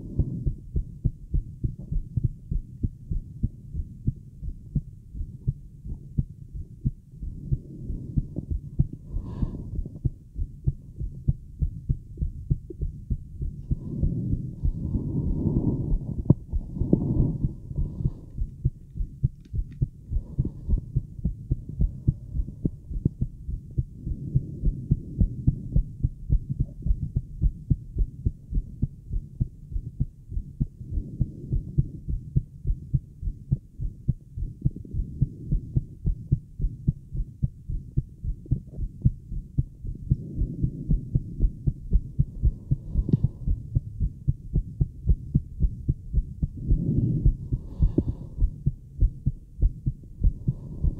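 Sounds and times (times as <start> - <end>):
fast heartbeat thumps: 0.0 - 50.9.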